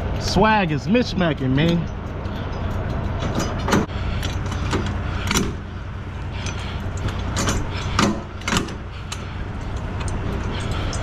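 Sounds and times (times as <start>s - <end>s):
diesel truck engine idling: 0.0s - 11.0s
metallic clanks and clicks: 1.3s - 5.7s, 6.4s - 11.0s.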